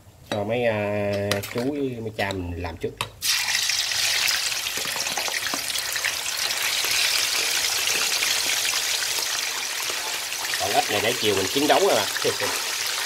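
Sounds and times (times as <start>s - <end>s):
meat deep-frying in hot oil: 1.2s - 13.0s.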